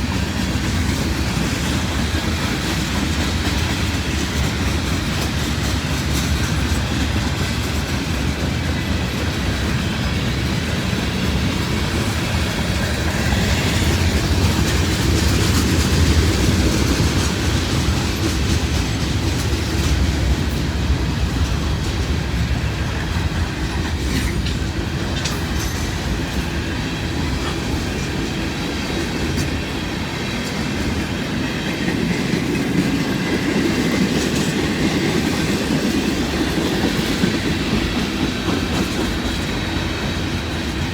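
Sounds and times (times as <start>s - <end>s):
freight train rumbling past: 0.0s - 40.9s
wheels clacking over rail joints: 0.0s - 40.9s.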